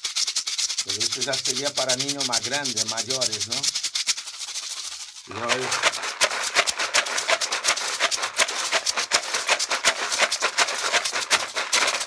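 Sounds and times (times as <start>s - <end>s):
plastic bottle shaker rattling: 0.0s - 12.0s.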